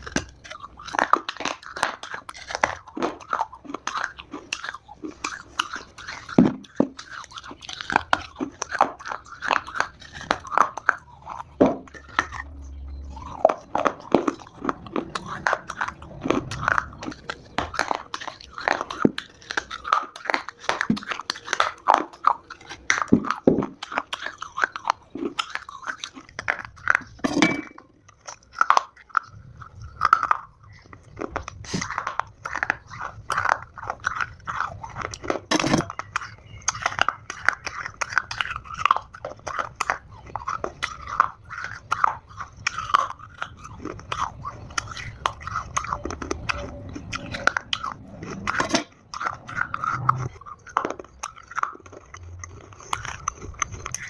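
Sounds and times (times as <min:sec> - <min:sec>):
chewing dry clay crunches: 0:00.0 - 0:54.0.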